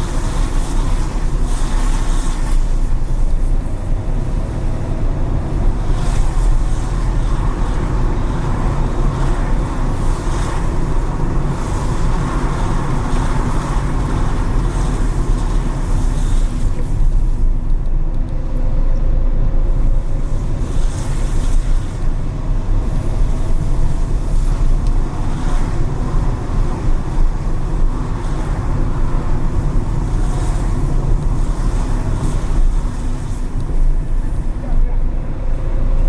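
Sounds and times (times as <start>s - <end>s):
car driving rumble: 0.0s - 36.0s
road and wind noise: 0.0s - 36.0s
tyre hiss of passing vehicles: 0.0s - 36.0s.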